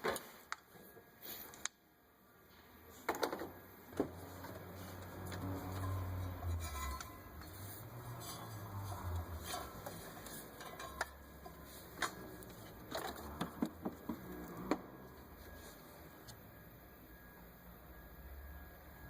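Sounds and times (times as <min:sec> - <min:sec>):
low steady hum: 0:00.4 - 0:19.0.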